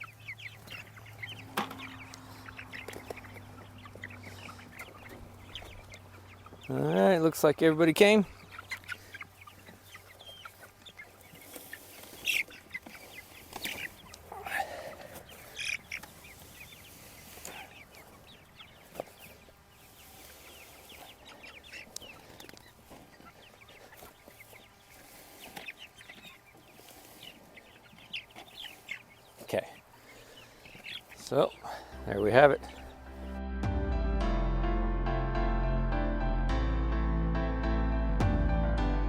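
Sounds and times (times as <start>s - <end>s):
chicks cheeping and clucking: 0.0s - 34.2s.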